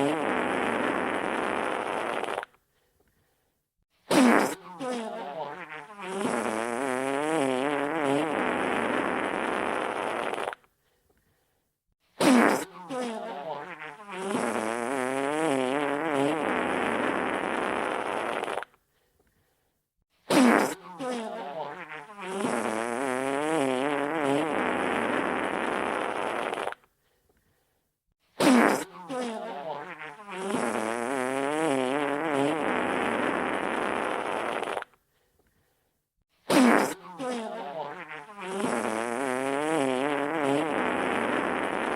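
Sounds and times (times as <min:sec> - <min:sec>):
wet sputtering fart: 0:00.0 - 0:02.6, 0:04.1 - 0:10.7, 0:12.2 - 0:18.8, 0:20.3 - 0:26.9, 0:28.4 - 0:35.0, 0:36.4 - 0:41.9.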